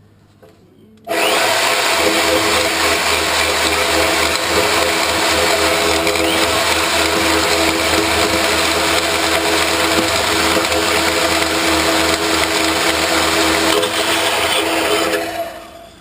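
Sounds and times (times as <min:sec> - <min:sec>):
saw blade cutting metal pipe: 0:01.1 - 0:15.7
power saw motor whining: 0:01.1 - 0:16.0.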